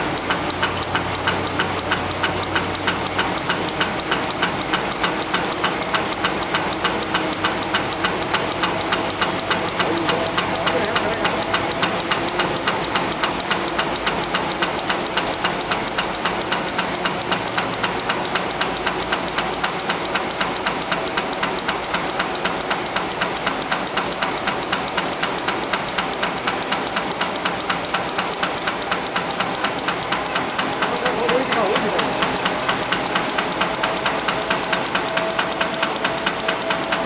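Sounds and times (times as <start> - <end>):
printing press clattering: 0.0 - 37.0.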